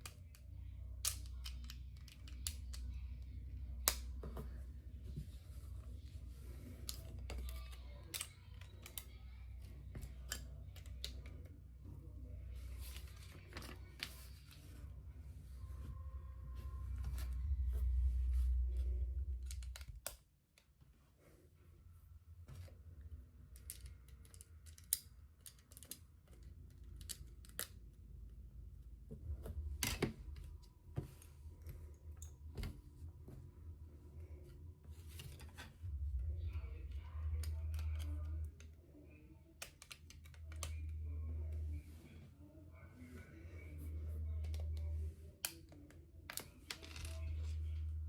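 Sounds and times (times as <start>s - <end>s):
low rumble of handling: 0.0s - 48.0s.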